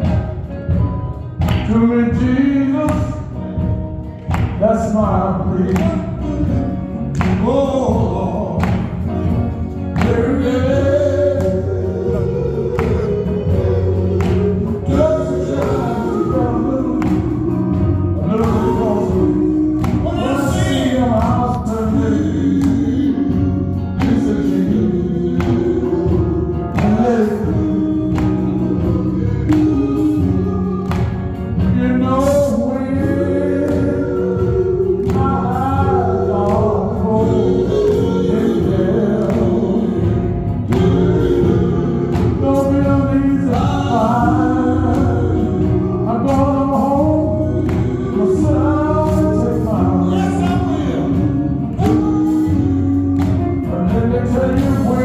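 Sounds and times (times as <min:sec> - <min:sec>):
electric guitar: 0:00.0 - 0:55.0
steady beat: 0:00.0 - 0:55.0
male group singing: 0:04.6 - 0:55.0.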